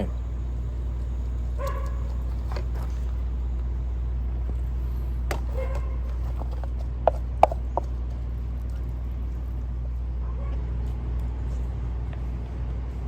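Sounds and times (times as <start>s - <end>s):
gas burner rumbling: 0.0s - 13.0s.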